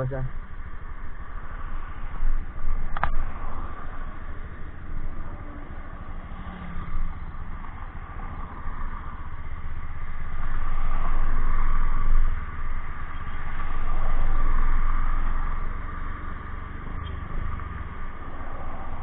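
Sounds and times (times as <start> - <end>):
road traffic: 0.0 - 19.0
motor scooter: 2.2 - 19.0.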